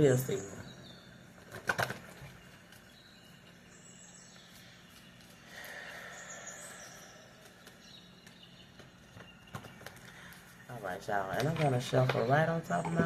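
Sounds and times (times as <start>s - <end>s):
faint bird chirps: 0.0s - 13.0s
low steady hum: 0.0s - 13.0s.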